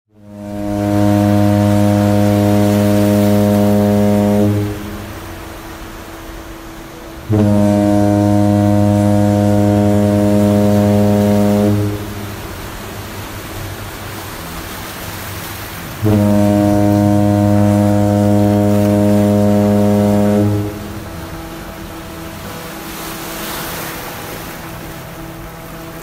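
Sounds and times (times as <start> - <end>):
deep ship horn blasts: 0.1 - 26.0
steady background noise: 1.1 - 16.1, 17.1 - 26.0.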